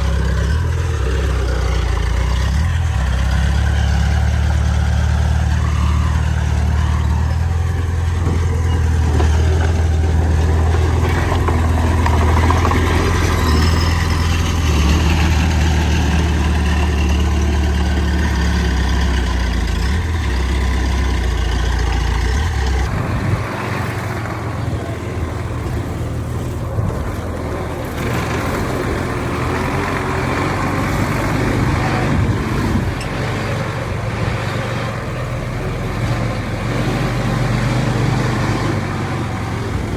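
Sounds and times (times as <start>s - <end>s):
heavy diesel machinery rumbling: 0.0s - 39.9s.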